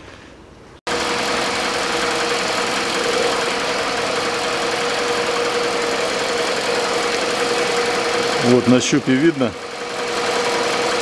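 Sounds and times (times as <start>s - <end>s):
car engine idling: 0.9s - 11.0s.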